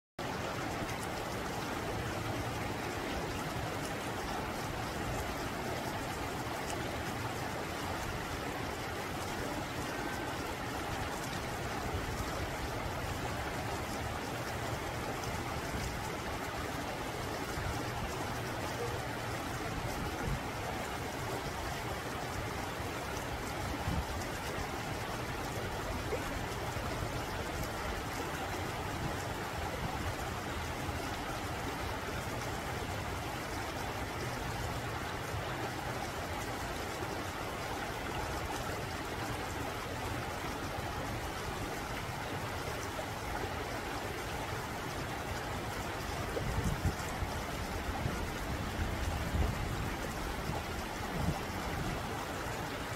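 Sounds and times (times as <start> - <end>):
stream flowing over rocks: 0.2 - 52.9.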